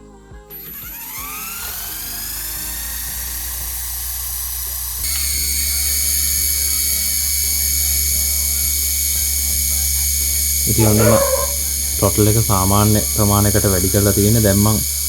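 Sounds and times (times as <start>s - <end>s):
model helicopter motor whine: 0.6s - 15.0s.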